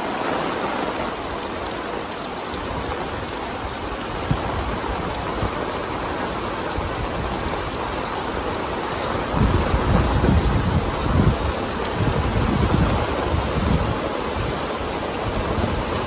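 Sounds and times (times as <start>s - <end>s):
heavy rain hiss: 0.0s - 16.0s.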